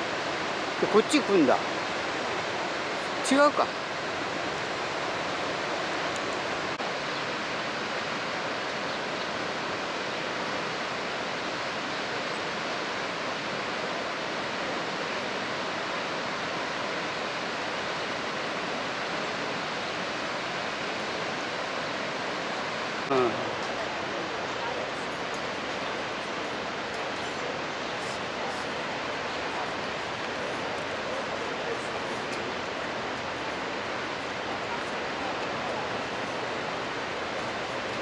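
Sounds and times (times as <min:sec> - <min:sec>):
churning river: 0:00.0 - 0:38.0
waterfall rushing: 0:00.0 - 0:38.0.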